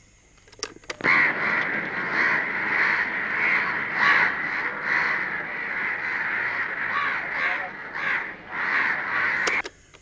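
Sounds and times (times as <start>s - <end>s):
crows cawing: 1.0s - 9.6s.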